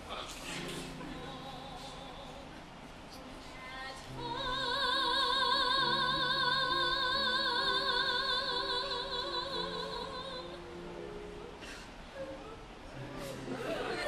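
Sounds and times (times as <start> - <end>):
musical accompaniment: 0.4 - 14.0.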